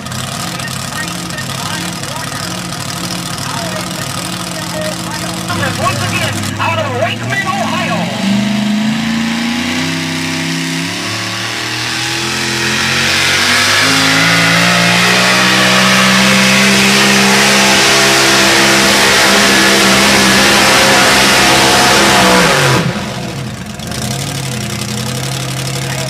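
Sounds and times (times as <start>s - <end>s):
pulling truck engine under load: 0.0s - 26.0s.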